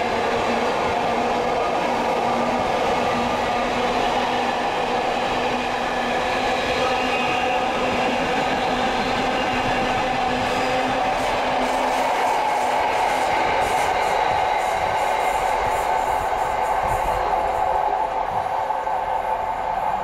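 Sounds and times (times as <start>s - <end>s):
diesel train engine drone: 0.0s - 20.0s.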